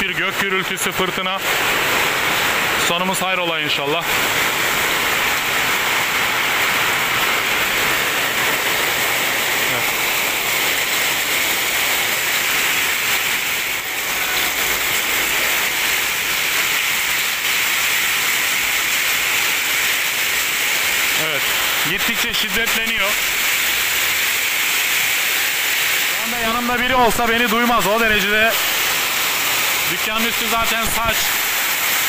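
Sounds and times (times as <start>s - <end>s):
heavy rain and hail on metal roof: 0.0s - 32.0s.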